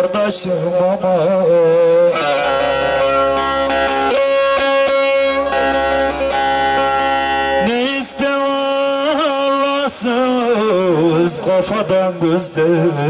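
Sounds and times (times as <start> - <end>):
amplified long-necked lute: 0.6 - 13.0.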